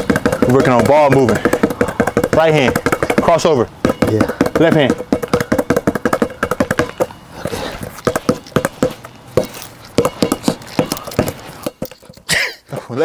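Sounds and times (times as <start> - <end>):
basketball bouncing on concrete: 0.0 - 12.3.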